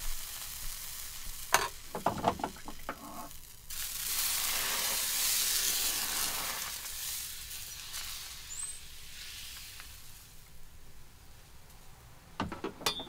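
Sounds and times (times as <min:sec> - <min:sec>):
batter sizzling on griddle: 0:00.0 - 0:11.3.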